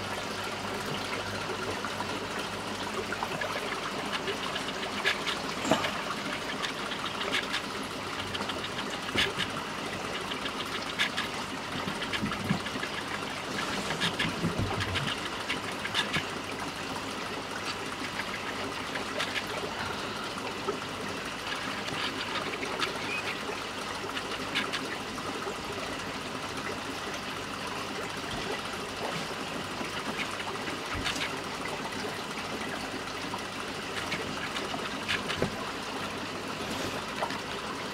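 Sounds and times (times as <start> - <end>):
aquarium water trickling: 0.0 - 37.9.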